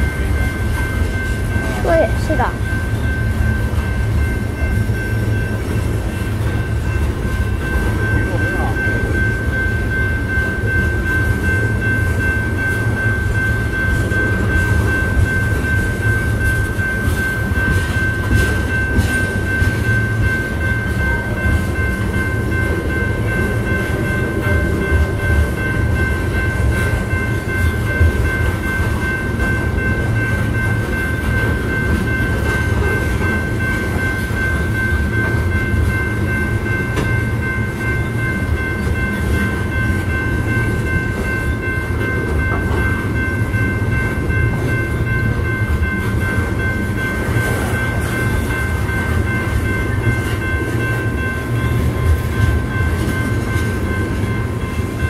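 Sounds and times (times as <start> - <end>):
high ringing tone: 0.0 - 55.0
train wheels rumbling on rail: 0.0 - 55.0.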